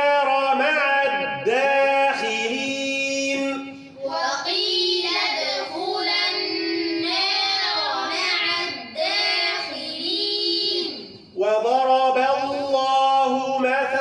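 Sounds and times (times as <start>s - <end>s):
children chanting verses: 0.0s - 14.0s.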